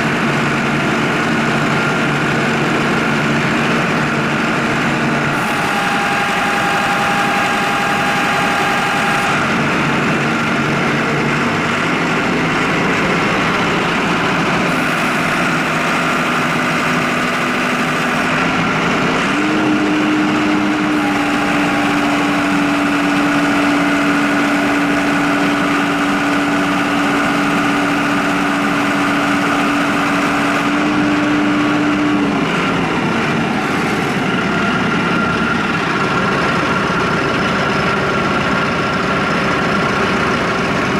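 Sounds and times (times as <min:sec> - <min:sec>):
hydraulic whine: 0:00.0 - 0:40.9
tractor diesel engine running: 0:00.0 - 0:40.9.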